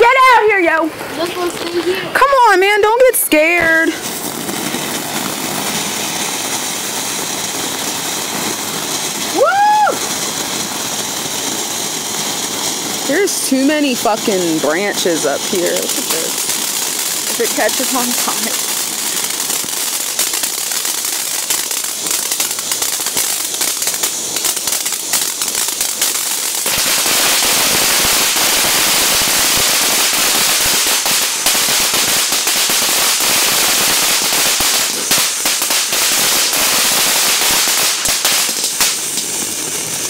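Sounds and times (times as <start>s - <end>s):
firework fountain hissing and crackling: 0.0s - 40.0s.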